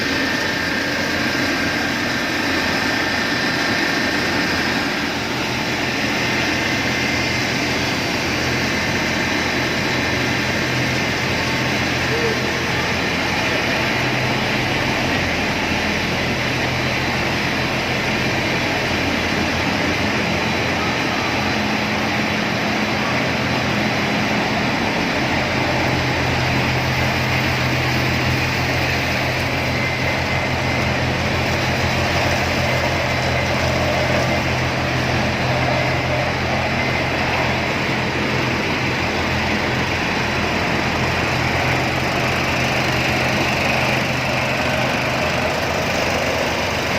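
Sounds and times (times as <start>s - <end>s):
factory machinery running: 0.0s - 46.9s.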